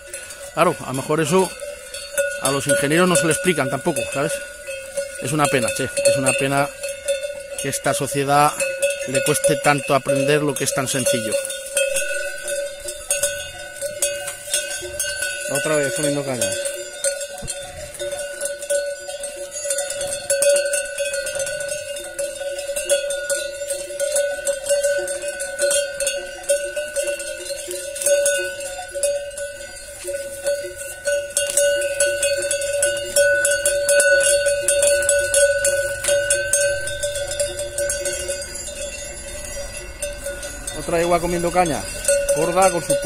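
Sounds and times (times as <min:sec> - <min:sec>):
metal bell clanking: 0:00.0 - 0:43.0.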